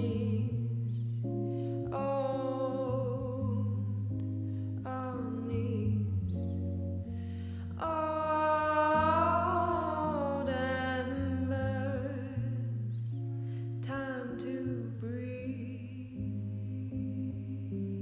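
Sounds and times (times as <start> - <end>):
low sustained tones: 0.0 - 18.0
person singing a wavering note: 0.0 - 18.0.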